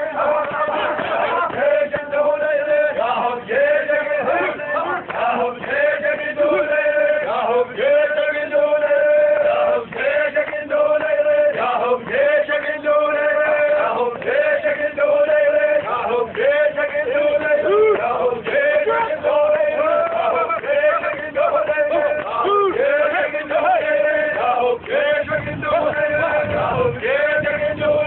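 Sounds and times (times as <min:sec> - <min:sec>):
men chanting: 0:00.0 - 0:28.0.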